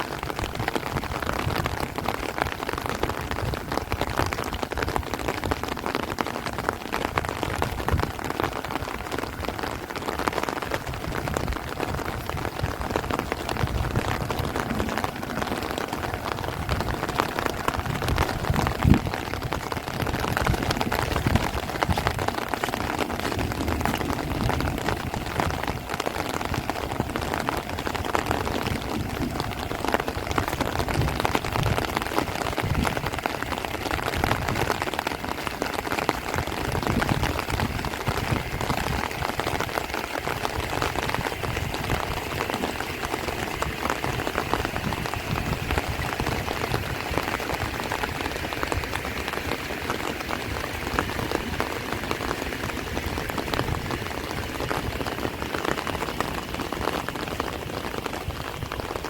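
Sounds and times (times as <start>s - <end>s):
heavy rain on plants: 0.0s - 59.0s
wind gusts rumbling: 0.0s - 59.0s.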